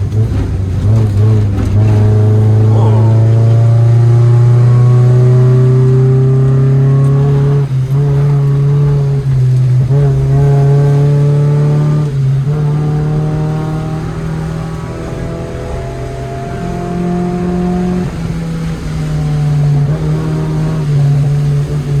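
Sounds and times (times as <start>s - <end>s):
car engine running under load: 0.0s - 22.0s.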